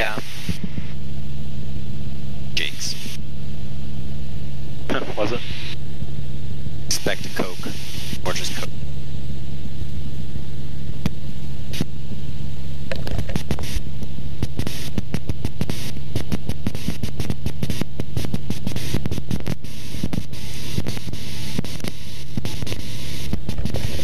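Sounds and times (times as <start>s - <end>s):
aircraft engine droning: 0.0s - 24.0s
crackling static: 0.0s - 24.0s.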